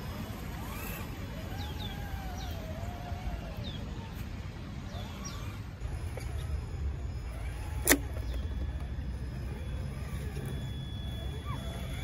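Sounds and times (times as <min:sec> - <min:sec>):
toy car electric motor: 0:00.0 - 0:12.0.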